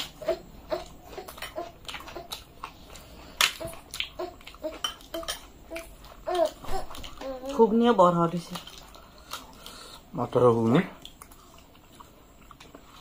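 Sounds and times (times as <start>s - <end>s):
people chewing food: 0.0s - 13.0s.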